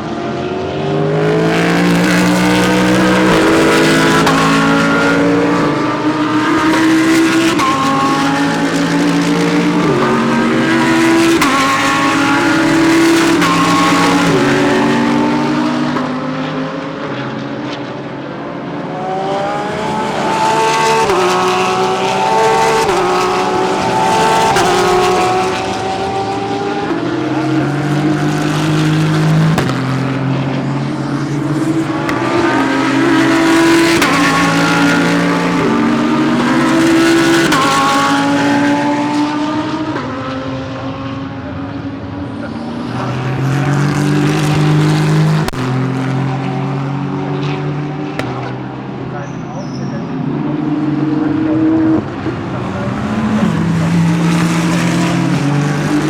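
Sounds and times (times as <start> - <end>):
race cars accelerating past: 0.0 - 56.0.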